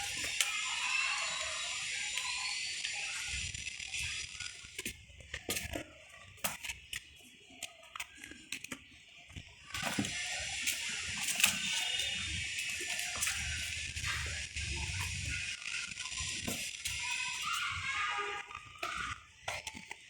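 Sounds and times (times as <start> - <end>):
cats playing with clicks and knocks: 0.0 - 1.3, 4.0 - 20.0.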